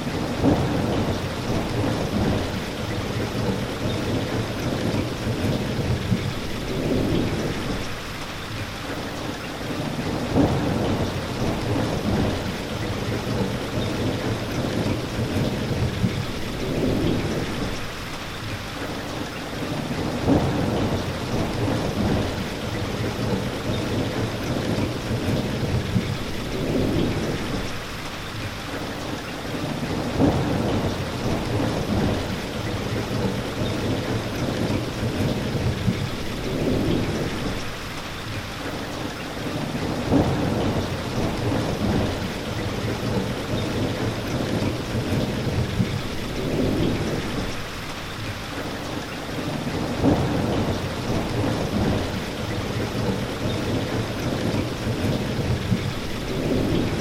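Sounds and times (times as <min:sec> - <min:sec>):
heavy rain: 0:00.0 - 0:57.0
thunder rumbling: 0:00.1 - 0:08.2, 0:10.0 - 0:18.0, 0:19.9 - 0:27.9, 0:29.8 - 0:38.0, 0:39.8 - 0:47.9, 0:49.4 - 0:57.0.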